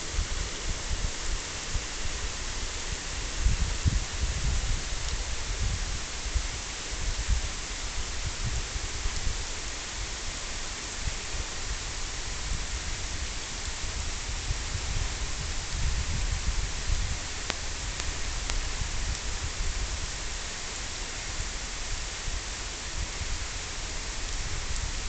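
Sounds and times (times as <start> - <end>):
steady rainfall hiss: 0.0 - 25.0.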